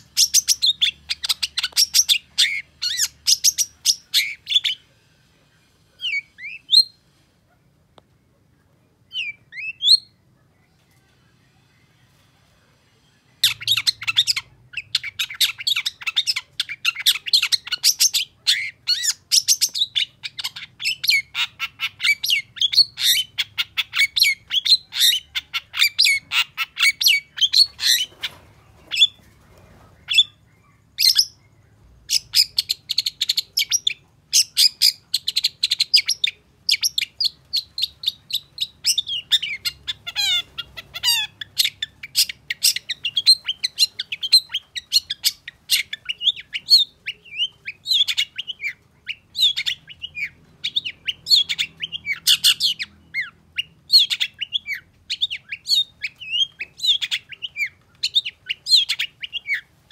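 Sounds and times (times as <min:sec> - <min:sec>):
bird chattering and chirping: 0:00.0 - 0:04.9, 0:13.4 - 0:59.9.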